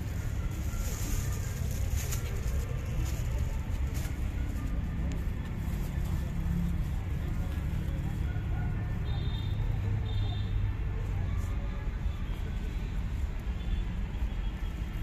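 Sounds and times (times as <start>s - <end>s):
distant voices: 0.0s - 15.0s.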